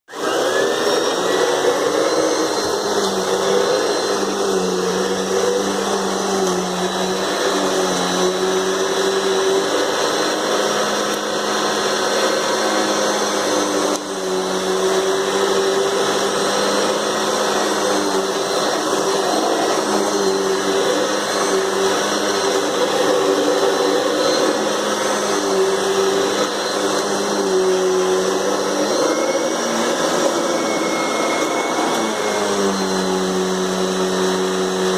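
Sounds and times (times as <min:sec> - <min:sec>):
vacuum cleaner whine: 0:00.1 - 0:34.9.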